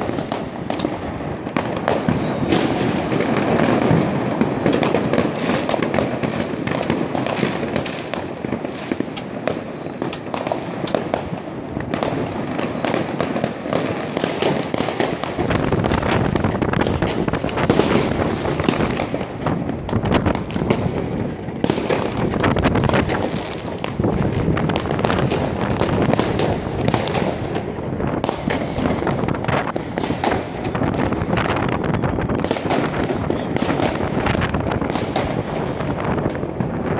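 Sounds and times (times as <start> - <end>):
fireworks and firecrackers exploding: 0.0 - 36.9.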